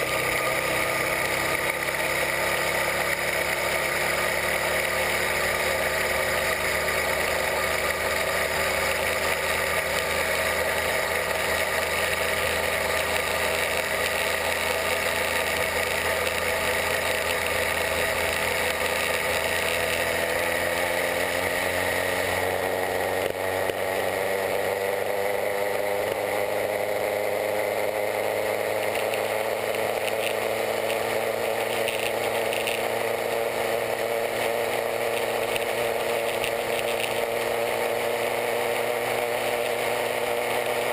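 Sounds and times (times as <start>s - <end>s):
two-stroke bicycle engine running: 0.0s - 40.9s.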